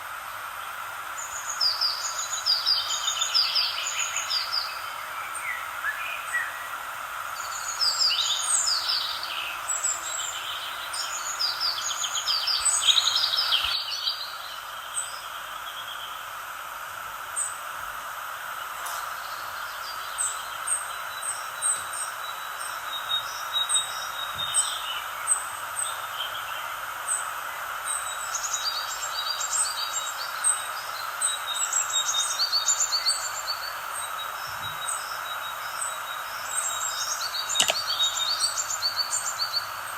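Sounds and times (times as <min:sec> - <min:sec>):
steady background hiss: 0:00.0 - 0:39.9
songbirds chirping and trilling: 0:00.4 - 0:39.9.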